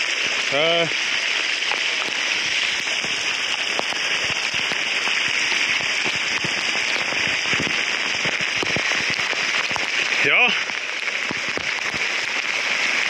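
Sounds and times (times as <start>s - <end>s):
heavy rain on flooded street: 0.0s - 13.0s.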